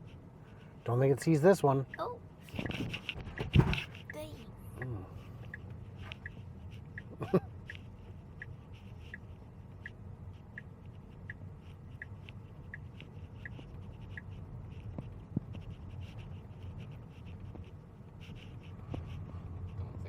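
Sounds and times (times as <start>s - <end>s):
low road noise hum: 0.0s - 20.0s
turn signal ticking: 0.8s - 19.1s.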